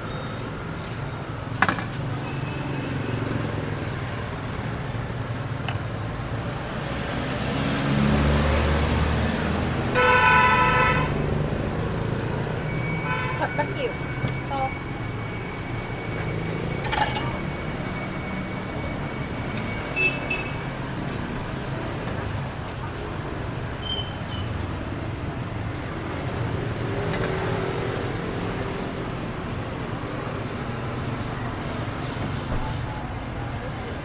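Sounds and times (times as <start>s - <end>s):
motorbike traffic: 0.0s - 34.0s.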